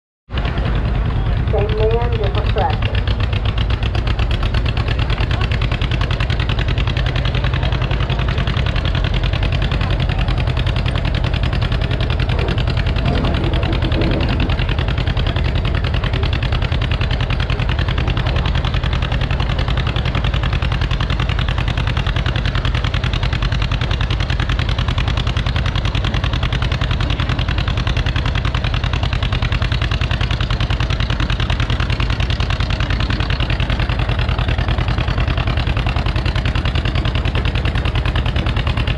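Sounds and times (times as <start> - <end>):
engine idling: 0.3 - 38.9.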